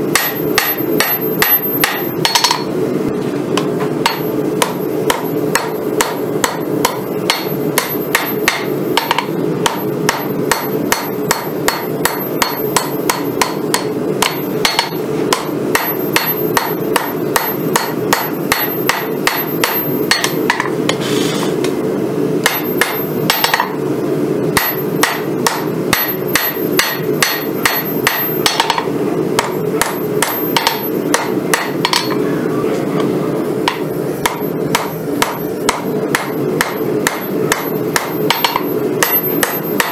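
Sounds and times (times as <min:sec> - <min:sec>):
hammer striking hot steel on anvil: 0:00.0 - 0:02.8, 0:03.5 - 0:21.0, 0:22.4 - 0:23.8, 0:24.5 - 0:32.2, 0:33.6 - 0:39.9.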